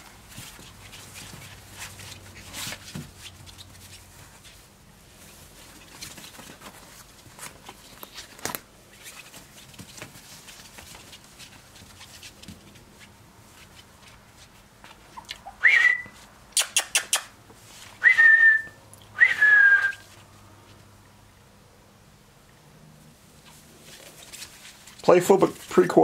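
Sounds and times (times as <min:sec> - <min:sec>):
puppy paws scratching on fabric: 0:00.0 - 0:18.0, 0:19.8 - 0:21.0, 0:23.2 - 0:26.0.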